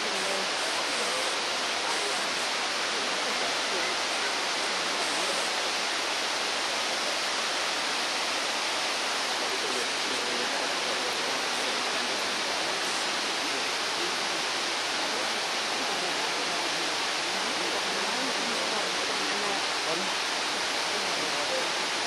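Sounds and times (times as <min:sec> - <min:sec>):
murmur of voices: 0:00.0 - 0:22.0
waterfall rushing into pond: 0:00.0 - 0:22.0.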